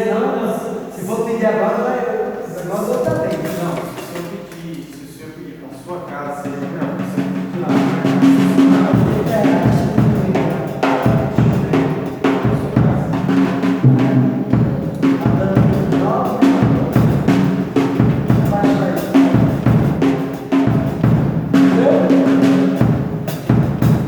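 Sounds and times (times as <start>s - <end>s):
drum kit playing: 2.6s - 5.0s, 6.1s - 24.0s.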